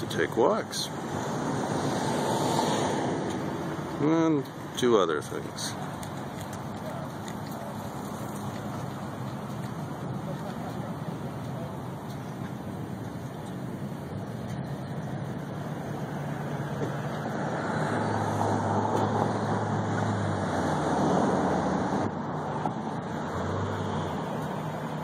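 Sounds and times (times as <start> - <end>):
road traffic passing: 0.0 - 25.0
vehicle engine hum: 0.0 - 25.0.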